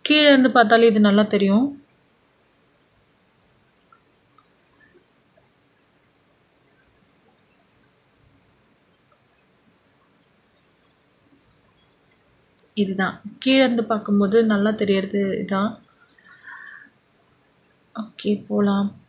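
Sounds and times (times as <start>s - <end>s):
faint background hiss: 0.0s - 19.0s
faint high chirps: 3.0s - 19.0s.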